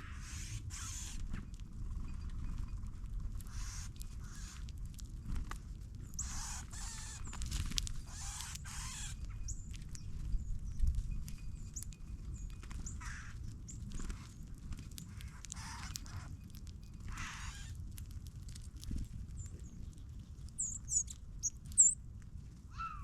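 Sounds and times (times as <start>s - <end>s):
small birds chip calls: 0.0s - 22.1s, 22.7s - 23.0s
steady low rumble: 0.0s - 22.8s
wings rustling and fluttering: 0.4s - 22.7s.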